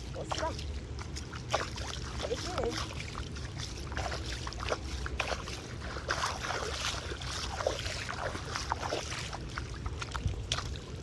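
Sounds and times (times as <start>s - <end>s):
splashing shallow water: 0.0s - 11.0s.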